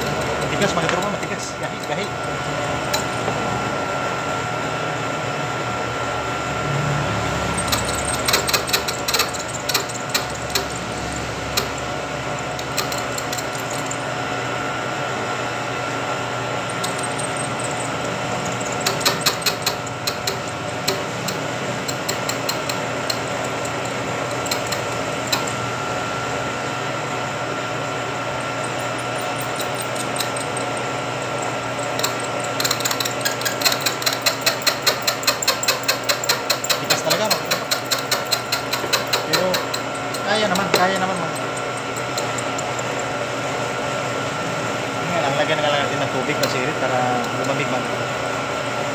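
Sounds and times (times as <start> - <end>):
milling machine whine: 0.0 - 48.9.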